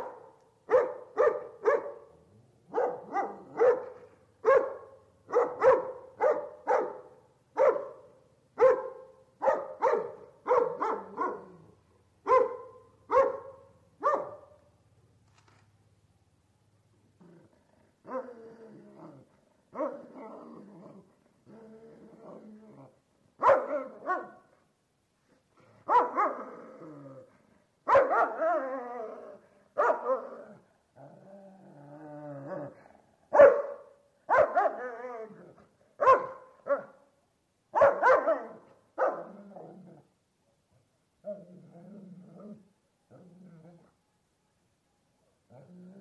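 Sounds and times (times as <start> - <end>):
large dog barking and growling: 0.0 - 14.6, 17.0 - 24.5, 25.5 - 37.0, 37.8 - 40.2, 40.8 - 44.0, 45.5 - 46.0.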